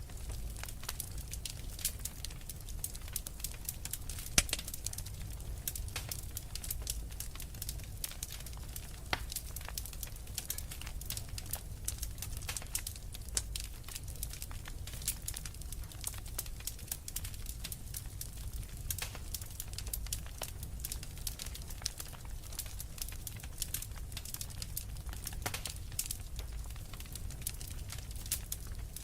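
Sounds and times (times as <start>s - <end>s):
low rumble of burning logs: 0.0s - 29.0s
wood fire crackling and popping: 0.0s - 29.0s.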